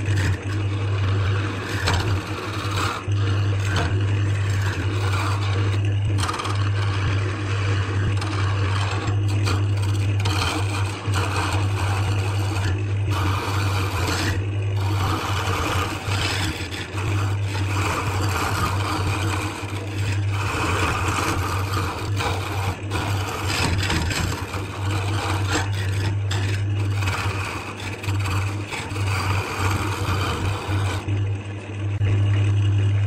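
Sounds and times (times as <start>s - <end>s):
tool scraping spinning wood: 0.0s - 32.1s
lathe motor humming: 0.0s - 33.0s.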